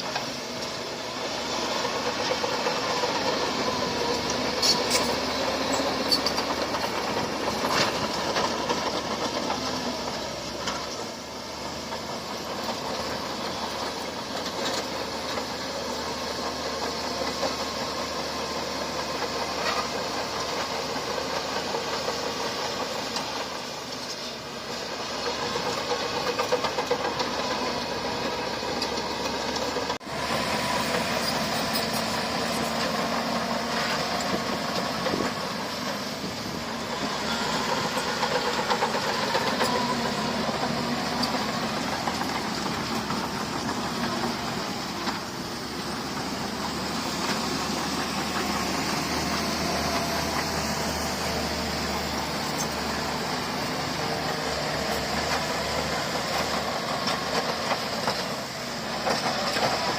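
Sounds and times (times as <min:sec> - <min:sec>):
heavy machine diesel engine running: 0:00.0 - 0:59.9.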